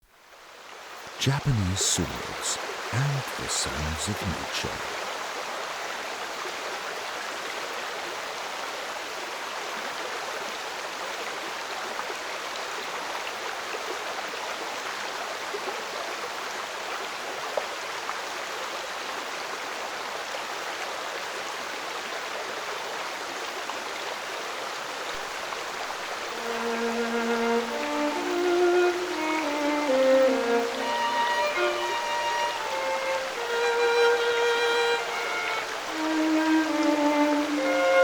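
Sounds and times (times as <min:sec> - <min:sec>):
stream water running over rocks: 0:04.9 - 0:38.0.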